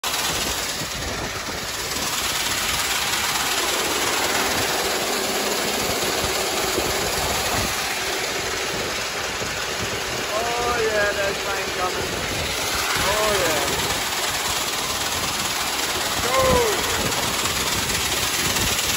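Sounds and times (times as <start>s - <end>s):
small petrol engine running: 0.0s - 18.9s.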